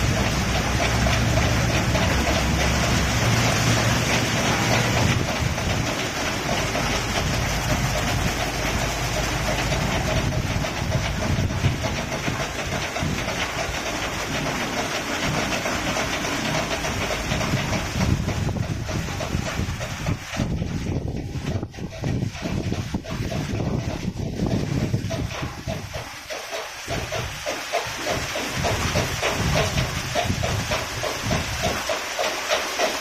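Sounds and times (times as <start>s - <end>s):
low motor hum: 0.0s - 32.9s
water spray and washing machinery: 0.0s - 33.0s.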